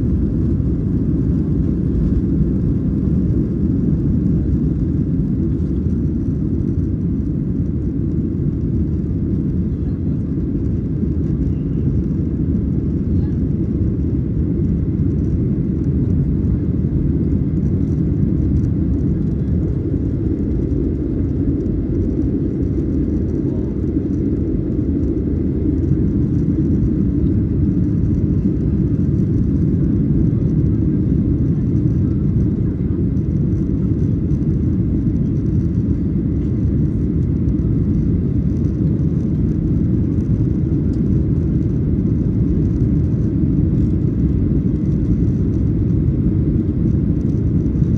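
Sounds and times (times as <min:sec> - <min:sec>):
jet engines rumbling on takeoff: 0:00.0 - 0:47.9.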